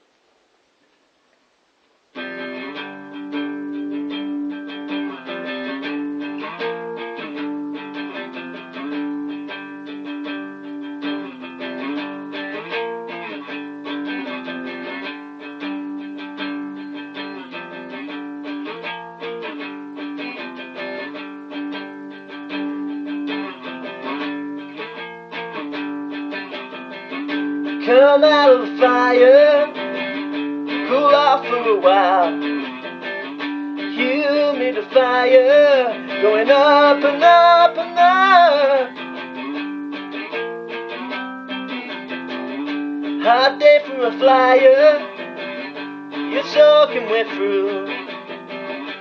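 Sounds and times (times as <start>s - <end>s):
guitar picking chords: 2.1s - 49.0s.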